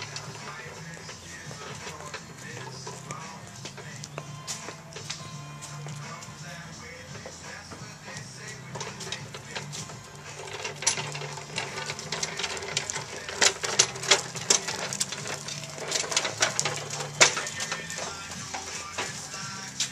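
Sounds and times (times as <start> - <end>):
pedal tractor rattling on concrete: 0.0 - 19.9.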